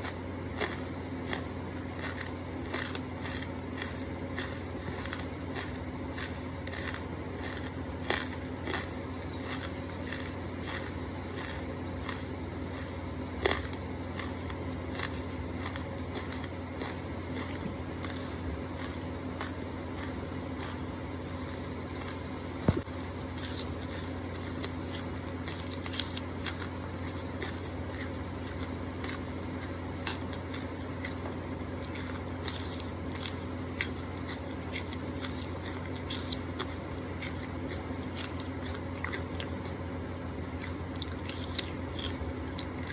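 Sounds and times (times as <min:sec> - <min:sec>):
chewing crunchy charcoal: 0:00.0 - 0:42.9.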